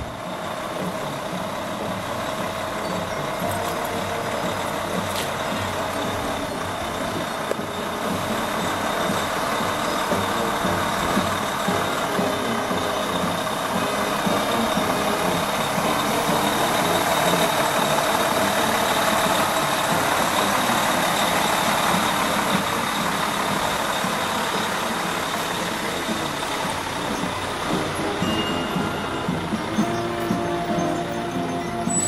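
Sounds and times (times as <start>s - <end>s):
diesel truck engine passing: 0.0s - 32.0s.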